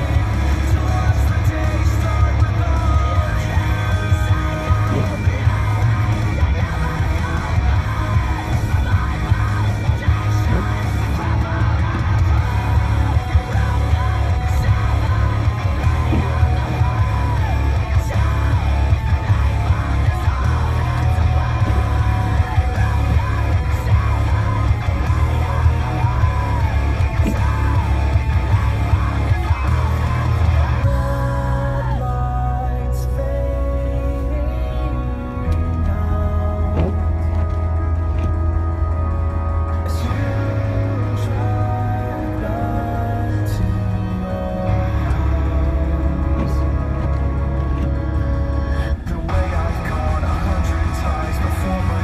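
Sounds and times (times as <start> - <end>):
loud rock song: 0.0 - 52.0
shouted sung vocal: 0.0 - 52.0.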